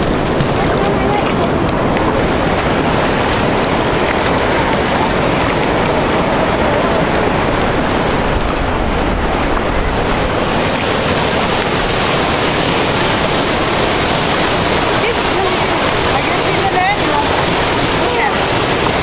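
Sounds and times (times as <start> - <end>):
water rushing: 0.0 - 19.0
wind buffeting microphone: 0.0 - 19.0.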